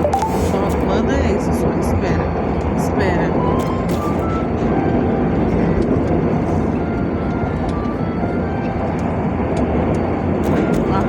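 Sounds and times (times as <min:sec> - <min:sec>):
loud steady rumbling: 0:00.0 - 0:11.0.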